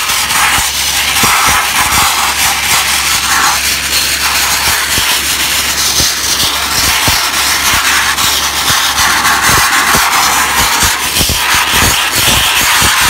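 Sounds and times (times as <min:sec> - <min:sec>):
abrasive blasting jet hissing: 0:00.0 - 0:13.0.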